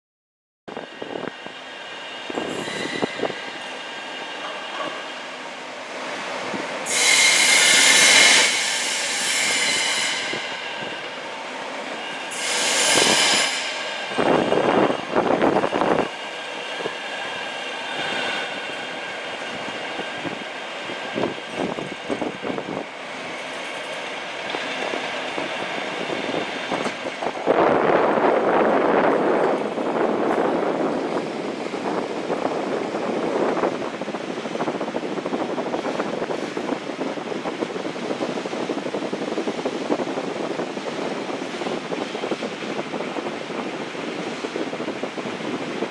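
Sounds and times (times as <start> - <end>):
metro train running: 0.7 - 45.9.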